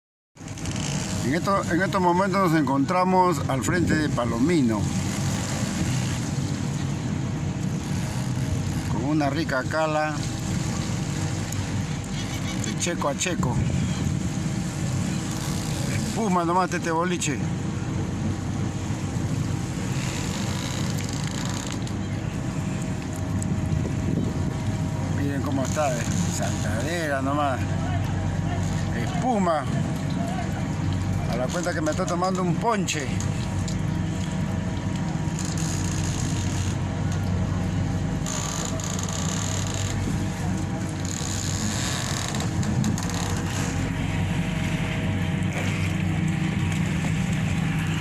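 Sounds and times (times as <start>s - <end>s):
boat engine drone: 0.4s - 48.0s.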